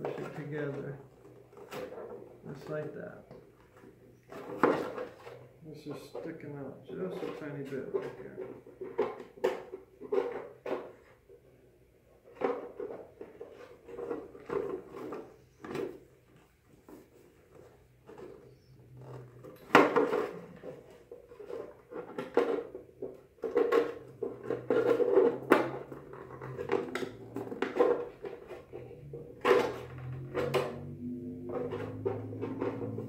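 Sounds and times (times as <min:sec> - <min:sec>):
hollow plastic knocks and scrapes: 0:00.0 - 0:11.5, 0:12.1 - 0:33.0.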